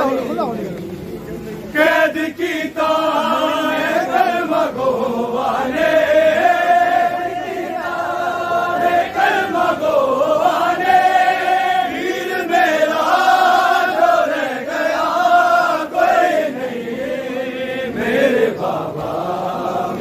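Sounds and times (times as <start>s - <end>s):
men chanting a lament: 1.6s - 20.0s.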